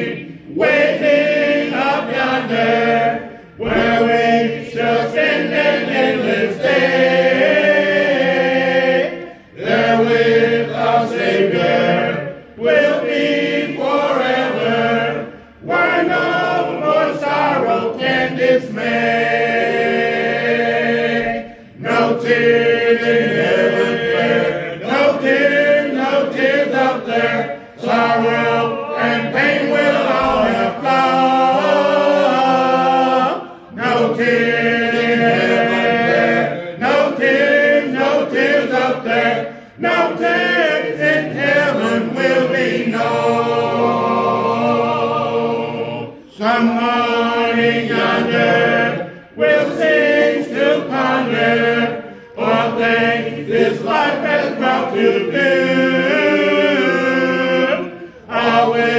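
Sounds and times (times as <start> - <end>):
congregation singing a hymn: 0.0 - 58.9.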